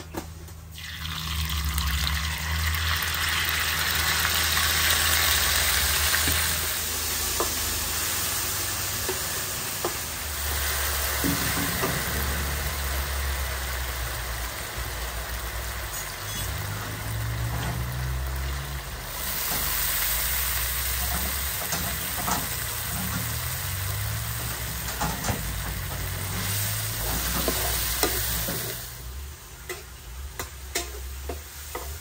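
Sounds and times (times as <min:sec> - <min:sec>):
eels sizzling in hot oil: 0:00.7 - 0:32.0.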